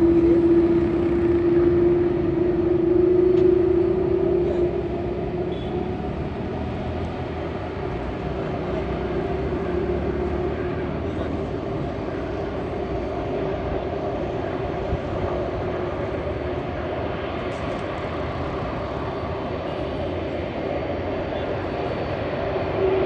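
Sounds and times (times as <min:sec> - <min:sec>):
aircraft engines running: 0:00.0 - 0:23.0.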